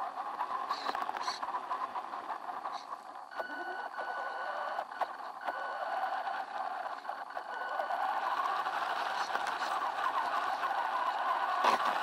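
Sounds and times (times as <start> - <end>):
toy truck motor whining: 0.0 - 12.0.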